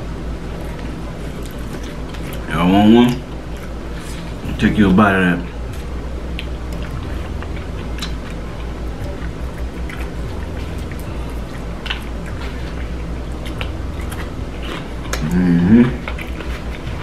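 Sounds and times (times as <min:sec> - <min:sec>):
steady low hum: 0:00.0 - 0:17.0
crunching fried chicken: 0:00.5 - 0:17.0.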